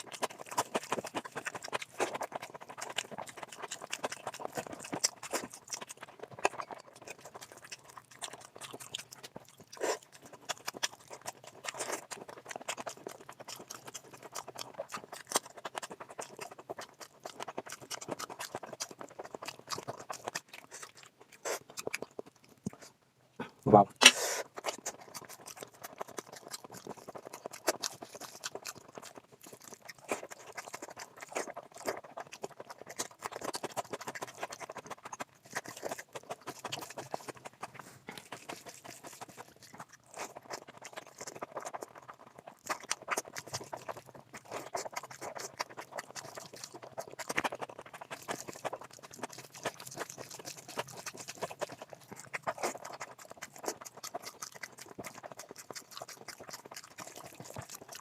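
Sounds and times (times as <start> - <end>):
wet chewing: 0.0 - 58.0.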